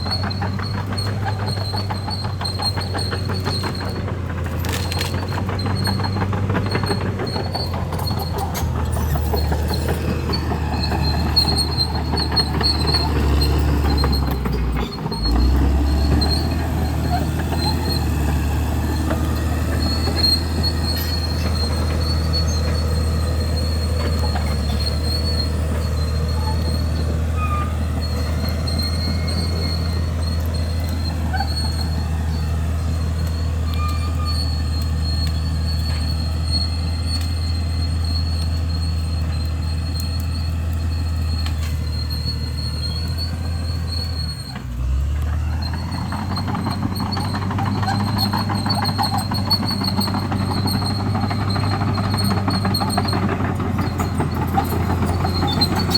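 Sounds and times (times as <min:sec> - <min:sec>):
bulldozer diesel engine under load: 0:00.0 - 0:55.9
metallic track noise: 0:00.0 - 0:55.9.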